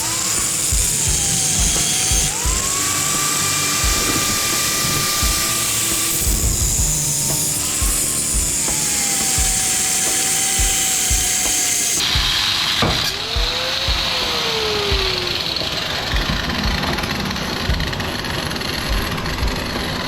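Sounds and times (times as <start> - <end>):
power saw cutting metal: 0.0 - 20.0.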